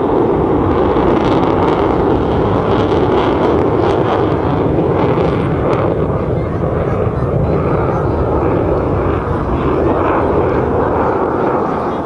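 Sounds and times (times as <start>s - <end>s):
jet engine roaring overhead: 0.0s - 12.0s.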